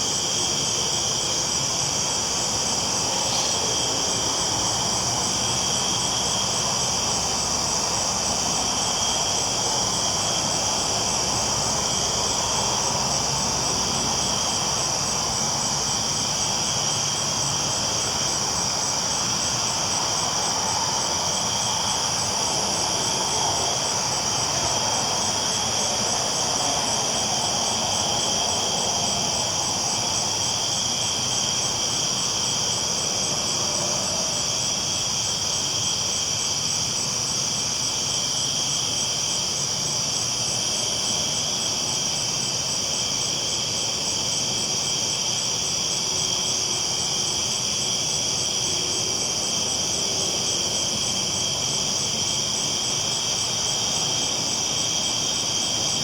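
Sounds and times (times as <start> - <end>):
high-pitched hiss: 0.0 - 56.0.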